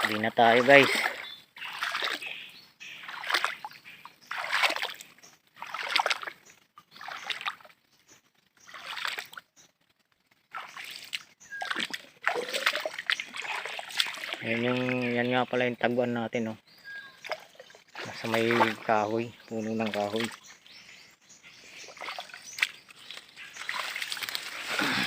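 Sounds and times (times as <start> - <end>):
rhythmic water splashing: 0.0 - 15.3, 17.2 - 20.6, 21.6 - 25.0.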